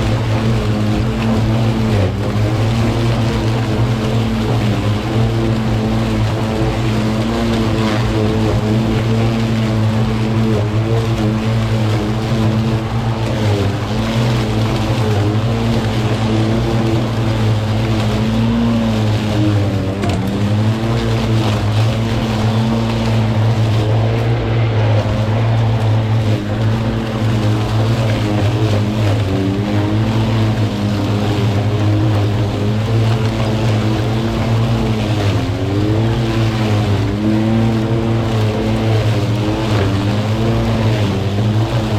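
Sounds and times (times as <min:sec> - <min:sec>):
electric lawn mower running: 0:00.0 - 0:41.9.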